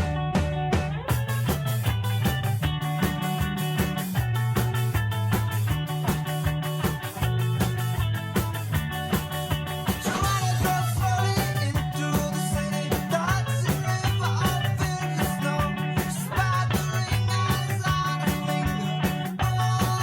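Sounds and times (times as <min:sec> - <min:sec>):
upbeat rock music: 0:00.0 - 0:20.0.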